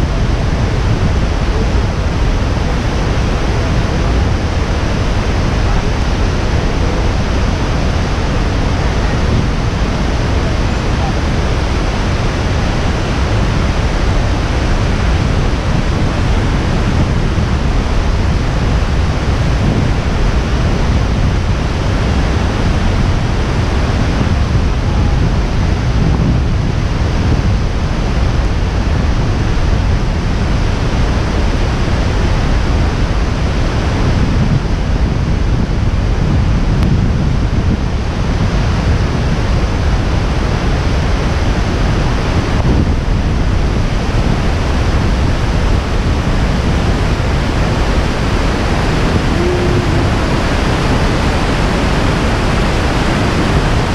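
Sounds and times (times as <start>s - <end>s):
waterfall crashing: 0.0s - 53.9s.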